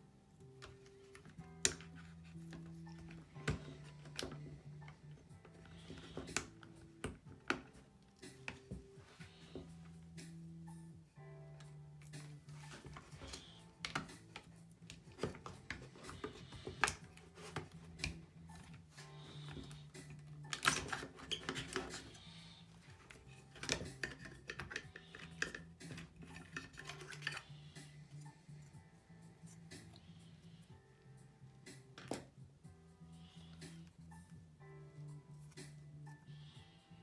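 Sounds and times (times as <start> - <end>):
quiet background music: 0.0 - 37.0.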